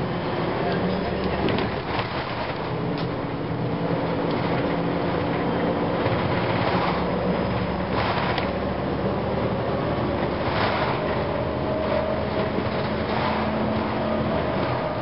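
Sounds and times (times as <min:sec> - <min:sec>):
bus drivetrain hum: 0:00.0 - 0:15.0.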